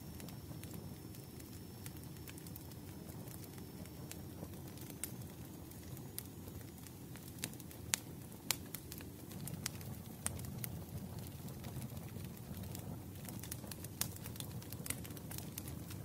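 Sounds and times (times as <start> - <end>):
wood fire crackling: 0.0 - 16.0
fire pops: 0.1 - 16.0.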